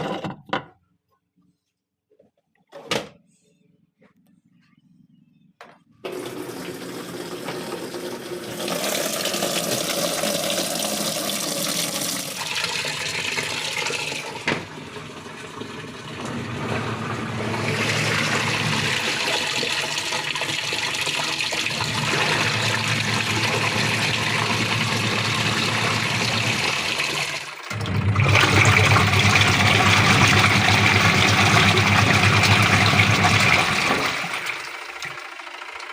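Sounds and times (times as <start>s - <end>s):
washing machine motor hum: 4.0s - 35.9s
water churning in washing machine: 6.0s - 35.9s.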